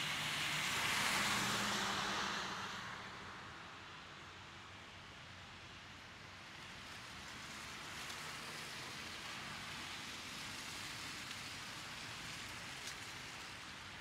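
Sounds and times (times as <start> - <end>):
tyres hissing on wet road: 0.0 - 3.5, 4.3 - 14.0.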